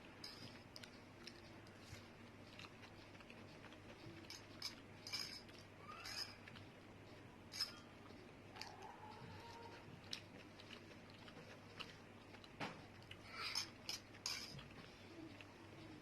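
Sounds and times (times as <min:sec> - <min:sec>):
person chewing noodles: 0:00.0 - 0:16.0.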